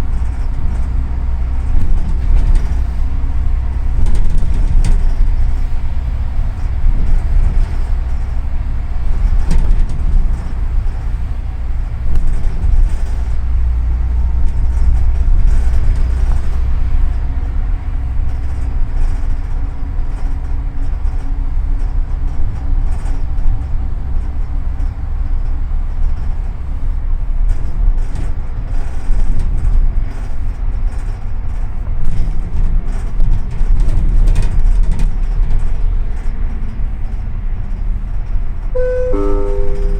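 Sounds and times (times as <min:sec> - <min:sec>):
bus engine and road rumble: 0:00.0 - 0:39.8.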